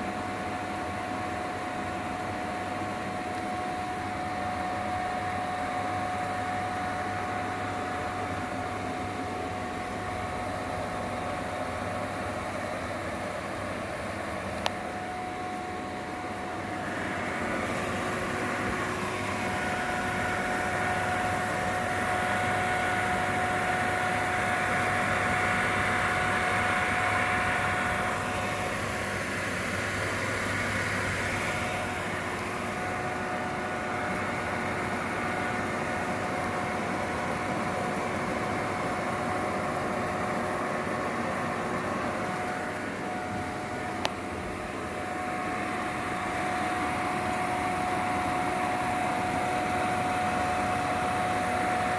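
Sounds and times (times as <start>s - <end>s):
fans humming with steady tone: 0.0s - 51.9s.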